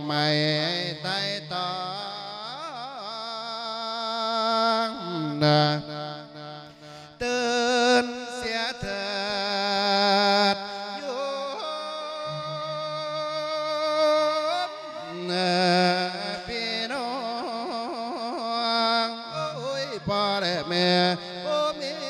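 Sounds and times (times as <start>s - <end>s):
person chanting through microphone: 0.0s - 22.0s.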